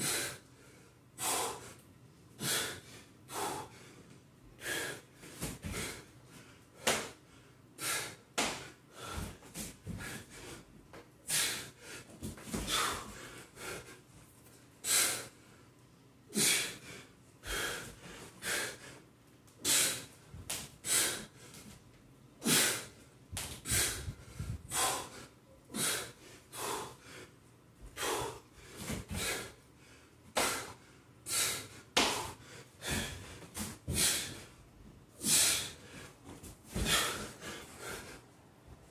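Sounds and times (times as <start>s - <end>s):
man breathing hard: 0.0s - 14.1s, 14.8s - 15.7s, 16.3s - 21.7s, 22.4s - 38.9s.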